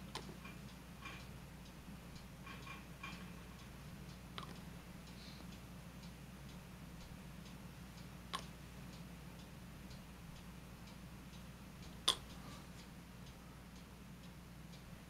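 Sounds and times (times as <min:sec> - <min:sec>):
faint steady ticking: 0:00.0 - 0:15.0.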